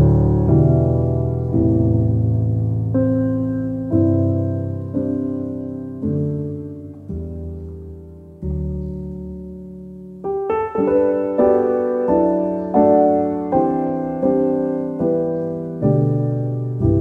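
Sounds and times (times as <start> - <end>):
slow piano notes: 0.0 - 17.0.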